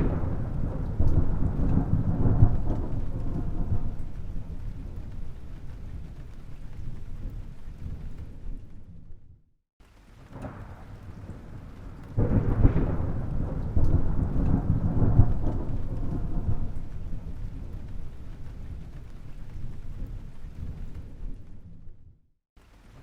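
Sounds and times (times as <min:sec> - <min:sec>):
thunder rumbling and cracking: 0:00.0 - 0:09.4, 0:10.0 - 0:22.2.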